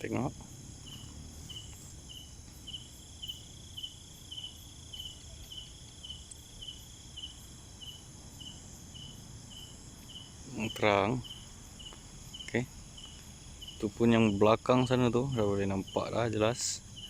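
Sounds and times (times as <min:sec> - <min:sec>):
crickets chirping: 0:00.0 - 0:17.0
high-pitched insect drone: 0:00.0 - 0:17.0.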